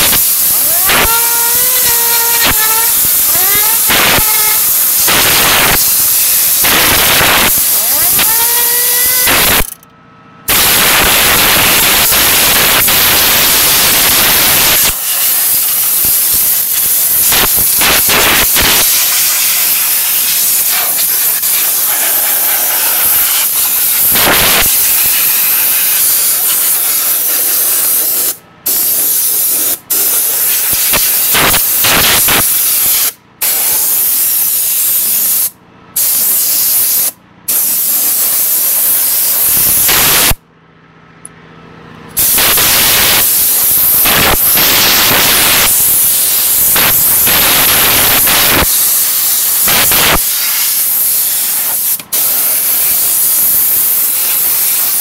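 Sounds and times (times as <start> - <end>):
compressed air hissing: 0.0 - 9.6, 10.5 - 40.4, 42.2 - 55.0.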